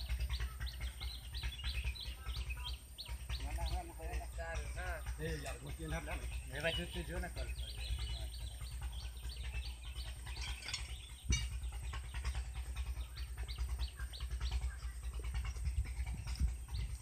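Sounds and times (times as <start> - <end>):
low rumble: 0.0 - 17.0
small birds chirping: 0.0 - 17.0.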